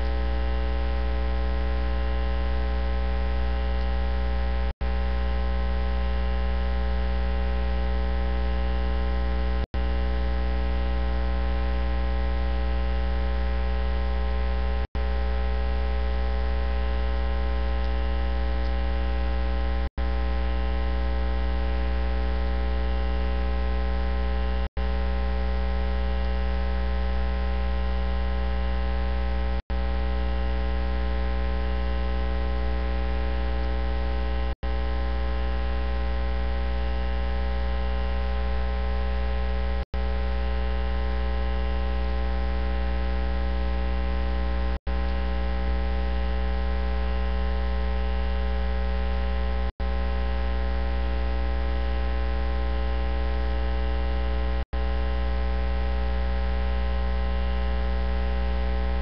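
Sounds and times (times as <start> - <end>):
loud electrical mains hum: 0.0 - 59.0.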